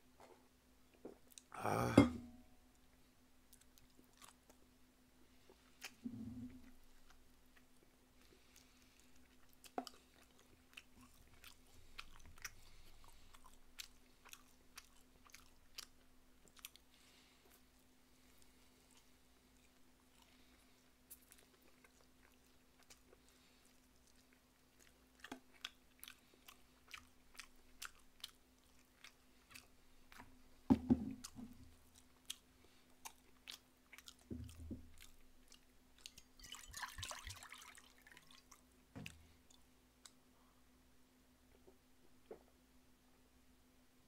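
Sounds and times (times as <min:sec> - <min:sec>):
faint steady hum: 0:00.0 - 0:44.0
person chewing food: 0:03.5 - 0:40.2.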